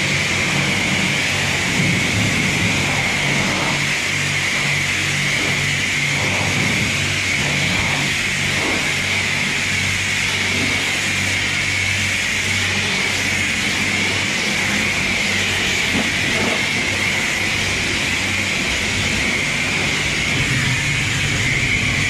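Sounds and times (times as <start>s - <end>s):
low hum: 0.0s - 22.0s
pressure washer spraying car: 0.0s - 22.0s.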